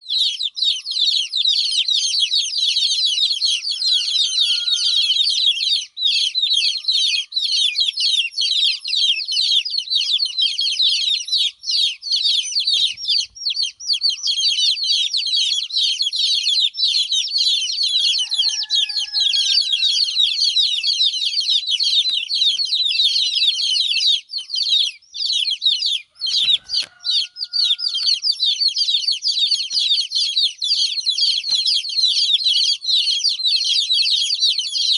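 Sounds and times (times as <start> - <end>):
baby chicks chirping: 0.0 - 34.9
lower longer chick calls: 0.0 - 34.9.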